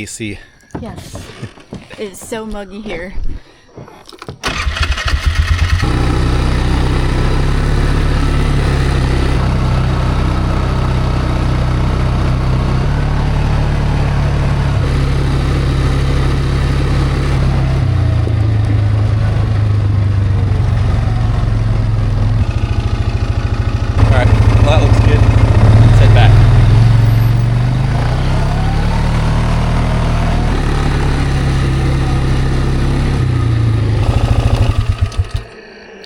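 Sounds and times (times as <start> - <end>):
vehicle engine running: 4.4 - 35.7.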